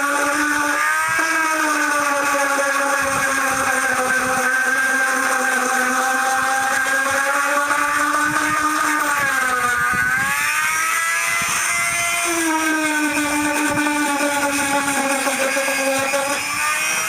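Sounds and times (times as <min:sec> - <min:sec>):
electric sander whining: 0:00.0 - 0:17.0.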